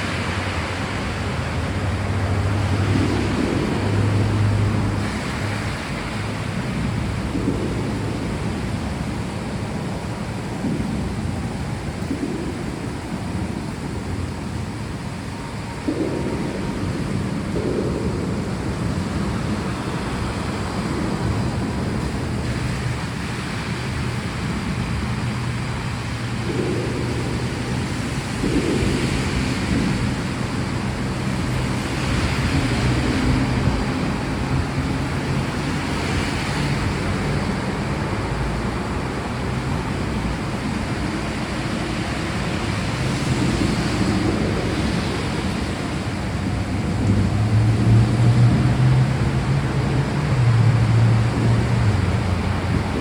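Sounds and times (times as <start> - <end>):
low rumble: 0.0 - 53.0
steady rain: 0.0 - 53.0.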